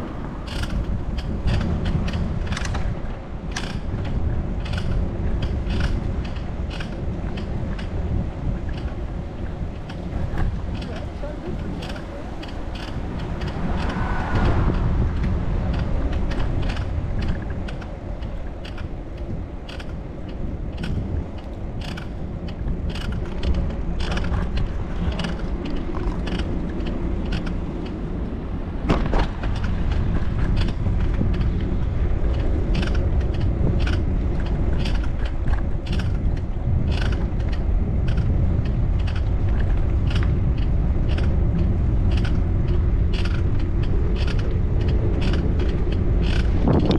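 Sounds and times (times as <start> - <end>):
bicycle clicks and creaks: 0.0 - 46.9
wind and rolling tyres: 0.0 - 46.9.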